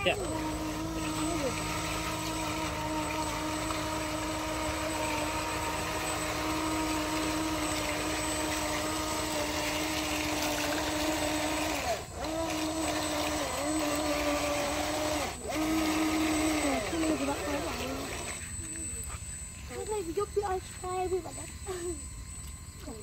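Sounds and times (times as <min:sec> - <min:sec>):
toy electric motor whining: 0:00.0 - 0:23.0.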